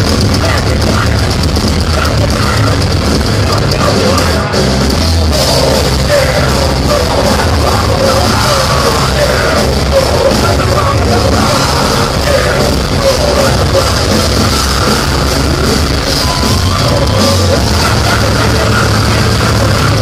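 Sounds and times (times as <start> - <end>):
distorted guitars: 0.0 - 20.0
drums: 0.0 - 20.0.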